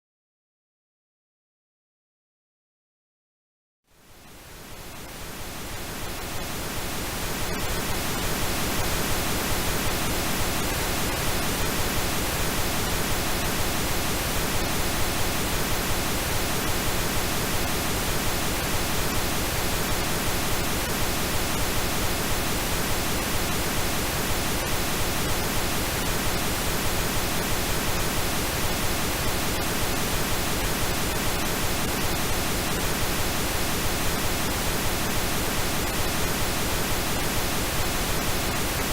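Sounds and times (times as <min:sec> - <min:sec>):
pink noise hiss: 0:03.9 - 0:38.9.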